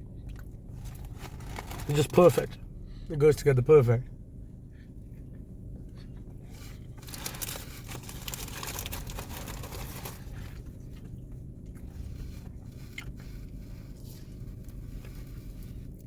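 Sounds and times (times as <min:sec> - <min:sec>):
crunching of chewing fried chicken: 0:00.0 - 0:02.2, 0:05.1 - 0:16.0.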